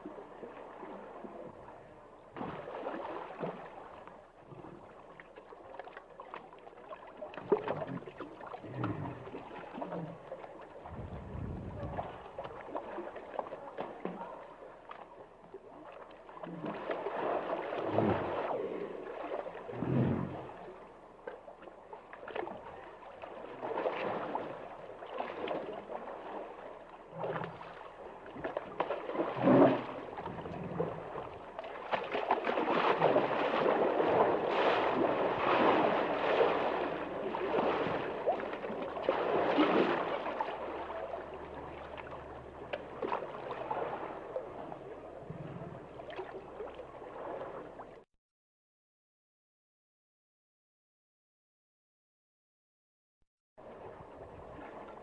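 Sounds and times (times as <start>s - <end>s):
water sloshing and gurgling: 0.0s - 48.1s, 53.6s - 55.0s.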